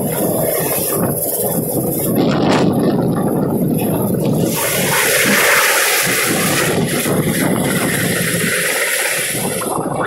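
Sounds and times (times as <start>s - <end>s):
helicopter engines and rotor: 0.0s - 10.0s.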